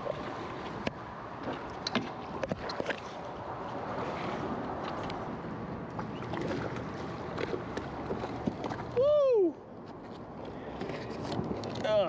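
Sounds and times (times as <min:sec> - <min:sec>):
water noise: 0:00.0 - 0:12.0.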